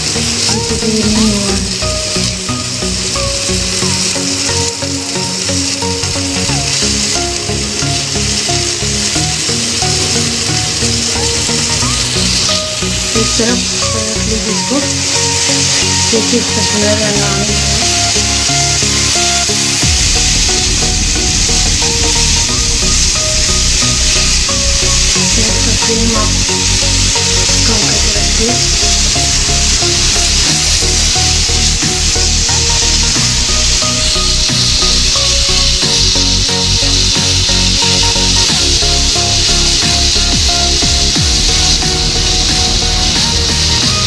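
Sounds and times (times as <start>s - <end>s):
background music with beat: 0.0s - 44.0s
chicken sizzling in grill pan: 0.0s - 44.0s.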